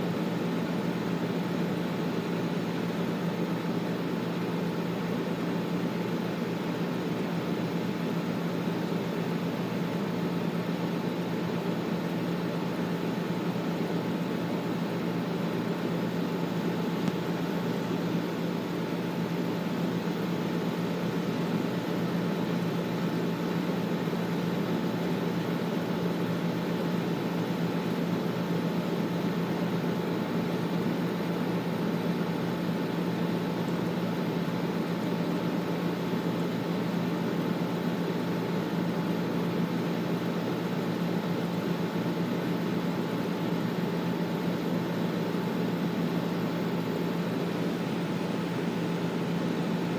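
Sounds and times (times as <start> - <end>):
air conditioner running: 0.0 - 49.9.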